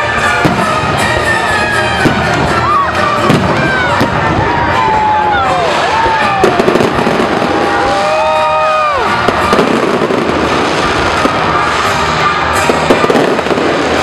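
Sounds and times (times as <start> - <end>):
fireworks crackling and popping: 0.0 - 14.0
fireworks whistling: 0.0 - 14.0.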